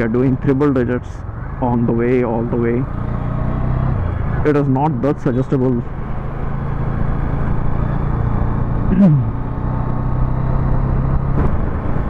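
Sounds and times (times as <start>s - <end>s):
motorcycle engine cruising: 0.0s - 12.0s
wind and road rumble: 0.0s - 12.0s.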